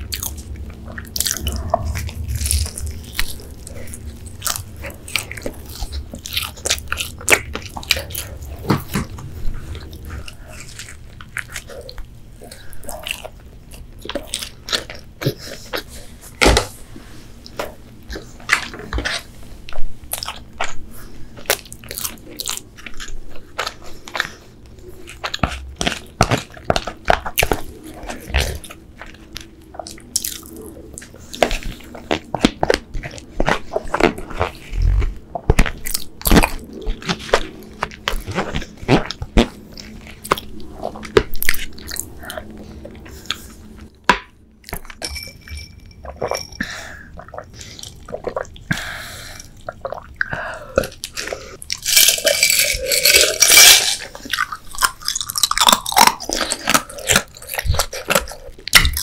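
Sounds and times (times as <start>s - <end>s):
chewing crispy chicken: 0.0s - 16.4s, 17.4s - 44.0s, 46.2s - 59.0s.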